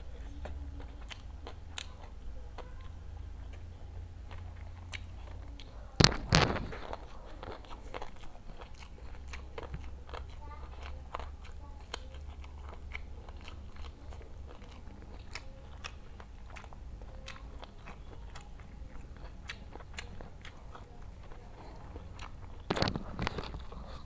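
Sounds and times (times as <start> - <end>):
person chewing with wet smacks: 0.0 - 24.0
steady low hum: 0.0 - 24.0
loud bite: 4.3 - 24.0.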